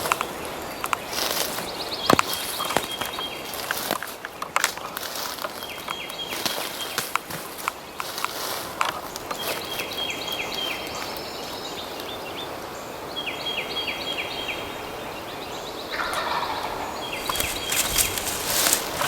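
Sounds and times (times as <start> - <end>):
songbird singing: 0.0 - 19.0
wind through woods: 0.0 - 19.0.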